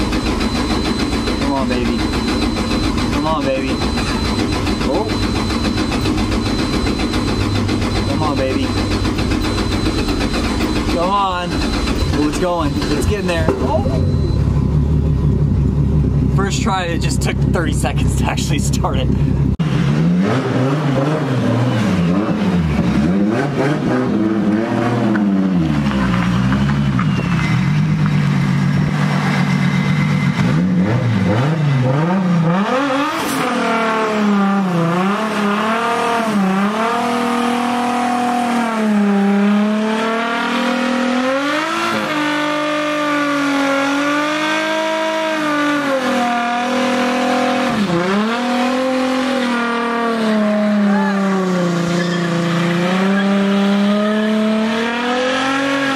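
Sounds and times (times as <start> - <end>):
car engine revving: 0.0 - 55.9
tires spinning: 0.0 - 55.9.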